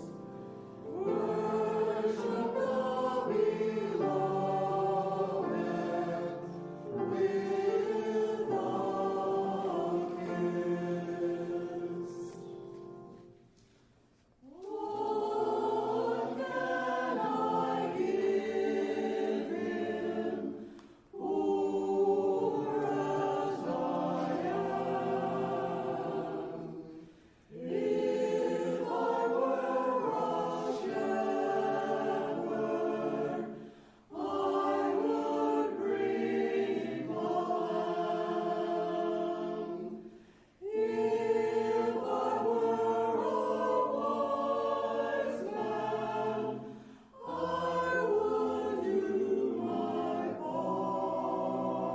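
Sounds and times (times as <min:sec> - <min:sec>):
choir singing: 0:00.0 - 0:13.4, 0:14.4 - 0:51.9.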